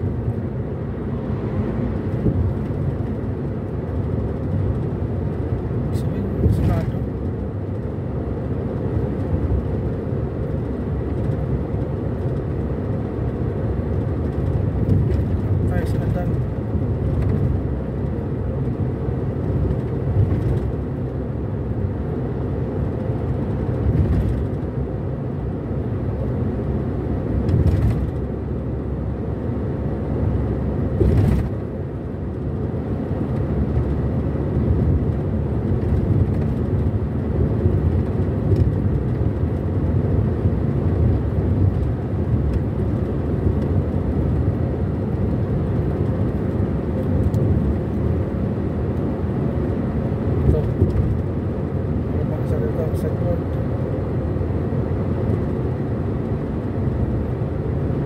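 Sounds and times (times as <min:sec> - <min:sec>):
car cabin road and engine rumble: 0:00.0 - 0:58.0.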